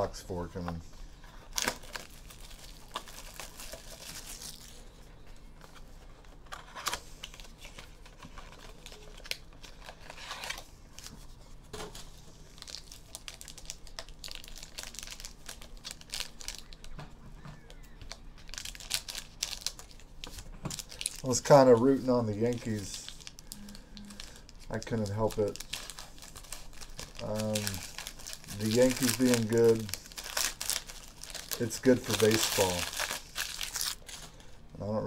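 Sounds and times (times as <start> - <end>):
wrapper crinkling and tearing: 1.4 - 5.0, 5.6 - 11.2, 12.0 - 17.0, 17.6 - 34.5.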